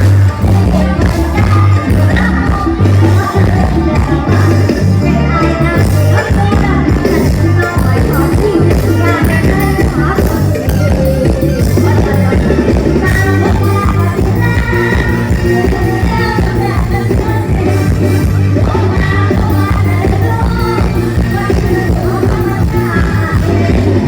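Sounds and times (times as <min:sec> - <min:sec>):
heavy bass line: 0:00.0 - 0:24.0
person singing: 0:00.0 - 0:24.0.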